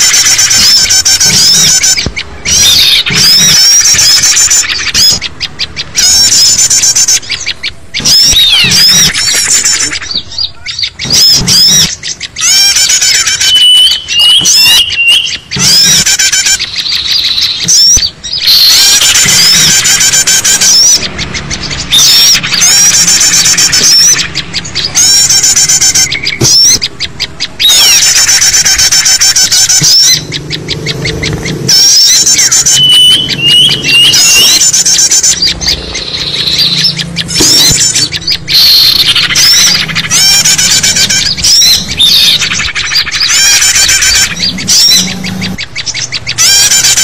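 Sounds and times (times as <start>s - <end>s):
small songbirds chirping and trilling: 0.0s - 47.0s.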